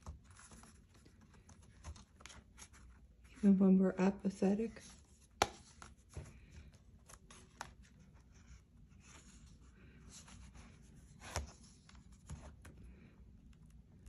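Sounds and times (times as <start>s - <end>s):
paper pages rustling: 0.0s - 3.6s, 4.7s - 13.0s.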